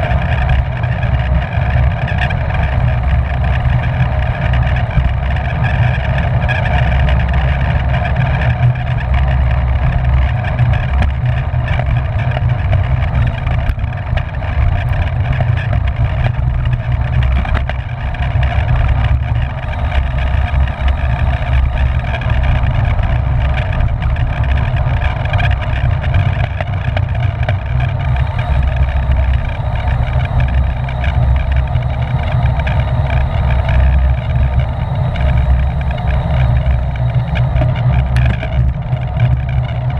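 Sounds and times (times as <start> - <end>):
bicycle rolling hum: 0.0 - 39.9
wind rushing over microphone: 0.0 - 39.9.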